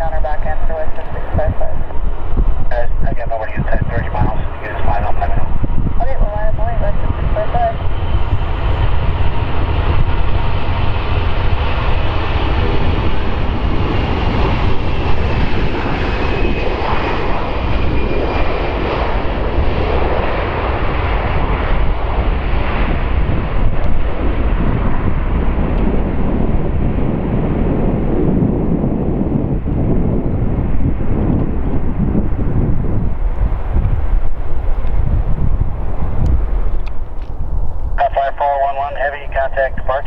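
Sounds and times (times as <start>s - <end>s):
high fan whine: 0.0s - 40.0s
jet engine roar: 0.0s - 40.0s.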